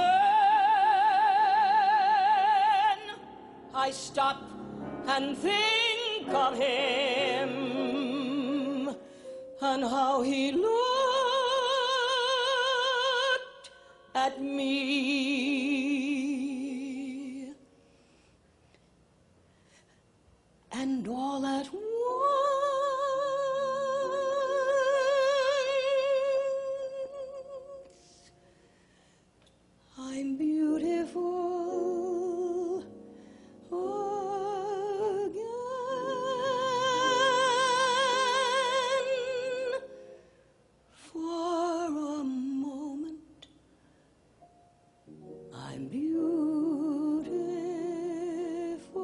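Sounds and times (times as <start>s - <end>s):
woman singing a slow ballad: 0.0s - 17.6s, 20.7s - 28.0s, 29.9s - 33.0s, 33.6s - 40.1s, 41.0s - 43.5s, 45.5s - 49.0s.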